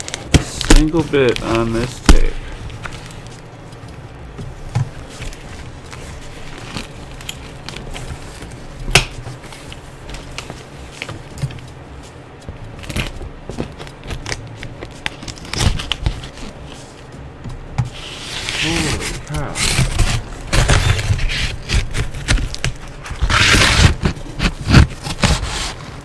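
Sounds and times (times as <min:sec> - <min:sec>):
paper and cardboard rustling: 0:00.0 - 0:26.0.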